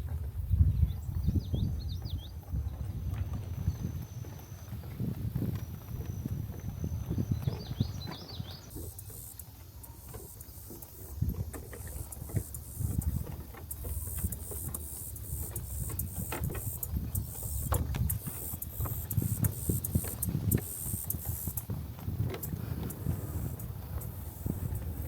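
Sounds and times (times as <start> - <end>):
footsteps on a trail: 0.0 - 25.0
wind buffeting microphone: 0.0 - 25.0.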